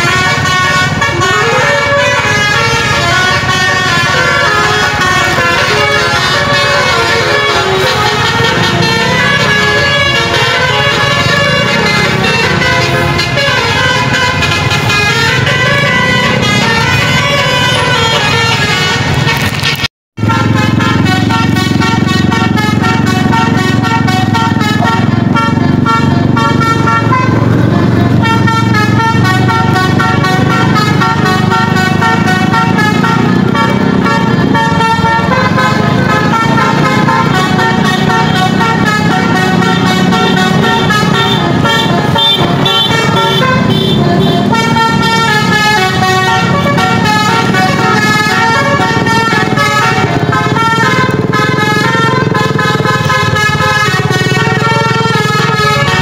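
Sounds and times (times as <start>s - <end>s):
bus horn playing a melody: 0.0s - 56.0s
low vehicle noise: 0.0s - 56.0s.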